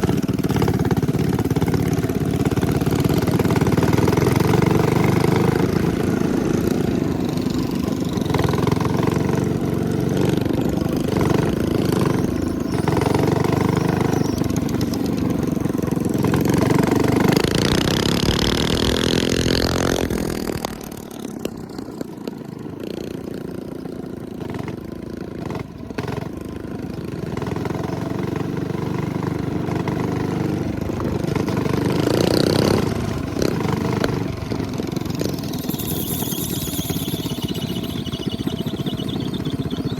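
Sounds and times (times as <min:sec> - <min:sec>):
minibike engine running: 0:00.0 - 0:39.9.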